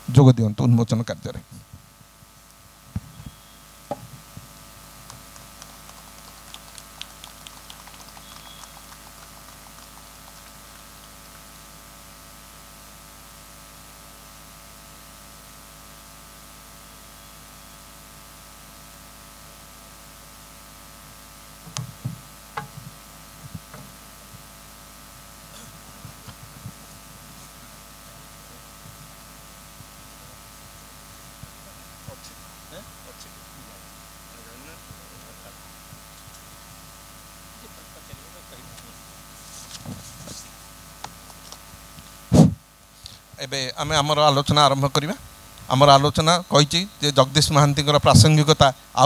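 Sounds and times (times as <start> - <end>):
sound system hum: 0.0 - 49.0.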